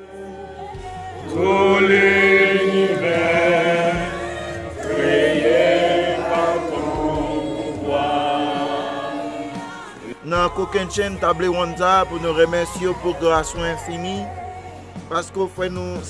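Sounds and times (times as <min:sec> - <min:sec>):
group singing a hymn: 0:00.0 - 0:15.5.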